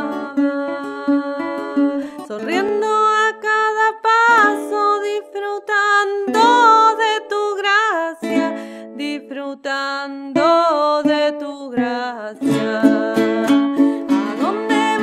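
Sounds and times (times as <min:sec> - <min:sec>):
acoustic guitar: 0:00.0 - 0:15.0
woman singing folk song: 0:00.0 - 0:15.0.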